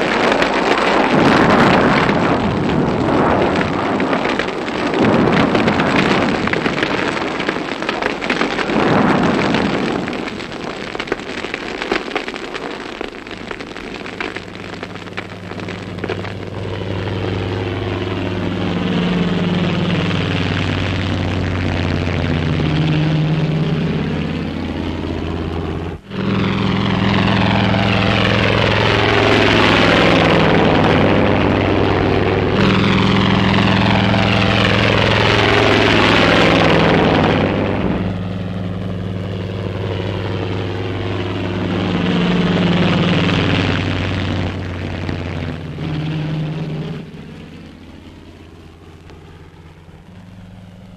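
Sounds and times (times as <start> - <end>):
helicopters flying over: 0.0 - 10.4, 14.2 - 50.9
broad rushing noise: 0.0 - 50.9.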